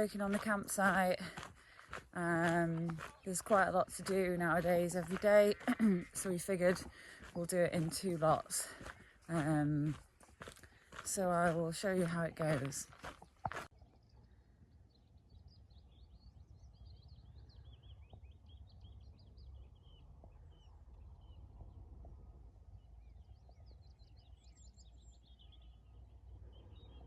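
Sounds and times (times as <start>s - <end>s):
small birds chirping: 0.0s - 21.6s, 22.8s - 27.0s.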